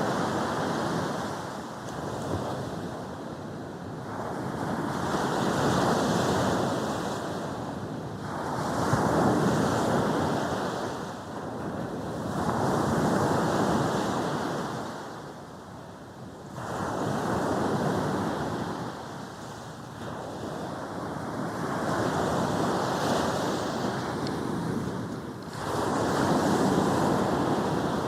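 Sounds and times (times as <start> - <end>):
sea waves breaking on beach: 0.0 - 15.4, 16.4 - 28.0.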